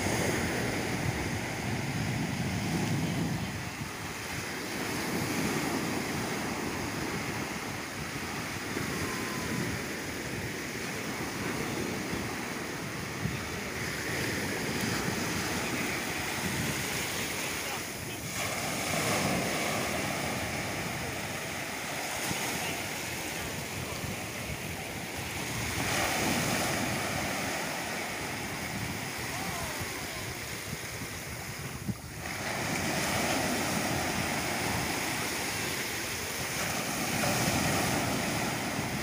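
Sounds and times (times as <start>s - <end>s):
small waves breaking on sand: 0.0s - 39.0s.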